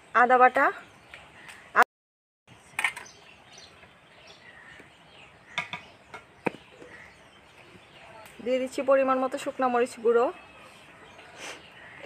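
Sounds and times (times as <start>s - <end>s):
faint outdoor ambience: 0.0s - 1.8s, 2.5s - 12.0s.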